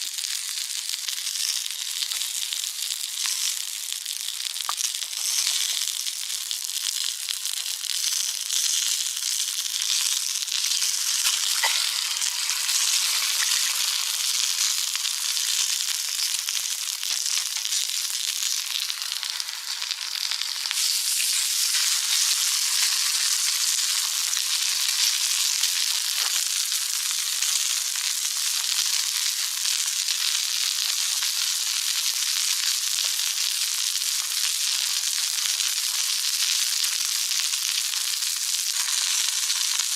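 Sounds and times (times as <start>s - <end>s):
food sizzling in a frying pan: 0.0s - 39.9s
small crackles: 0.0s - 39.9s.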